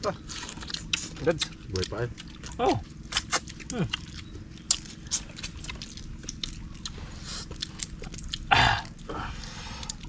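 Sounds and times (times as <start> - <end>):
chewing and crunching: 0.0 - 10.0.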